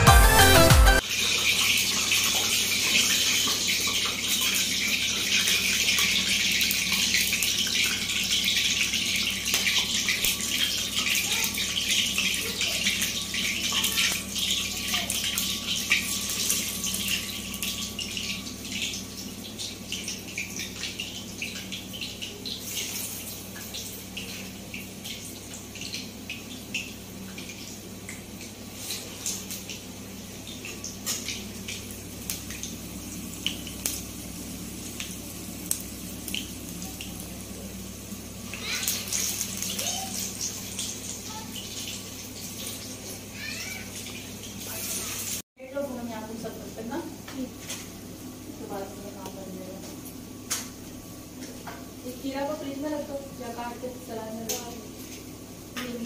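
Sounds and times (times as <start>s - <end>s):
dough sizzling in hot oil: 1.0s - 56.0s.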